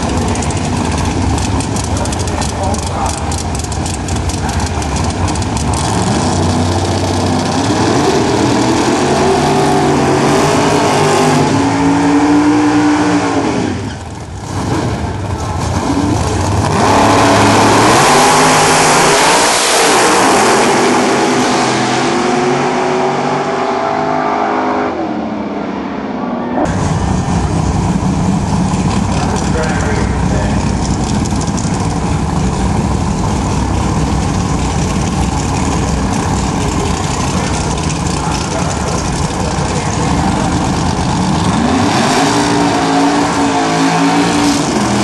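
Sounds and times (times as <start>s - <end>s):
drag racing car engine revving: 0.0s - 45.0s.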